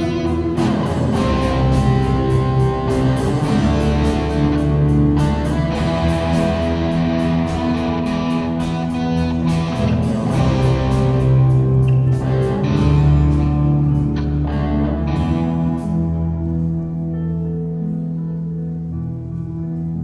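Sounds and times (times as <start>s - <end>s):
drum kit and cymbals: 0.0s - 16.4s
electric guitars and bass: 0.0s - 20.0s.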